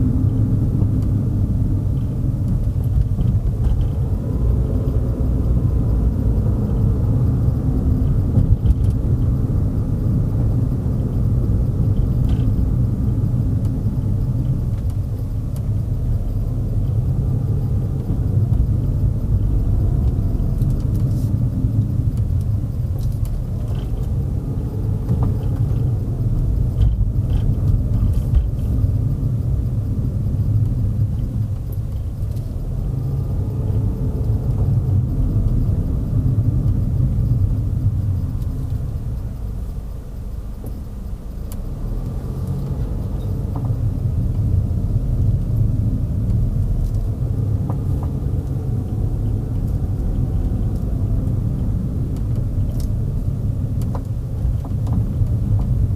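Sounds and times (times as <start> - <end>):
car interior road rumble: 0.0 - 55.9.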